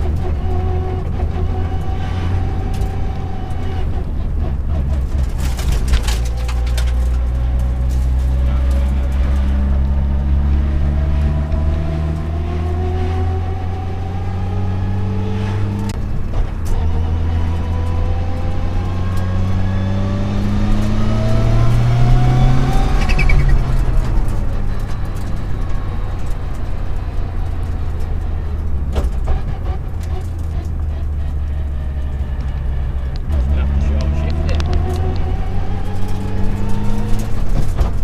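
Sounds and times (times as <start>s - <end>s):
car engine revving with misfire: 0.0s - 38.0s.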